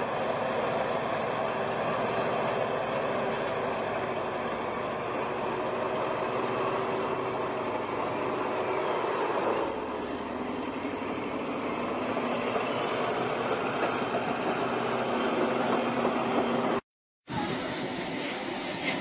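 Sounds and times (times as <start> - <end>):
steel tracks rolling over rocks: 0.0 - 16.8
bulldozer diesel engine running: 0.0 - 18.8.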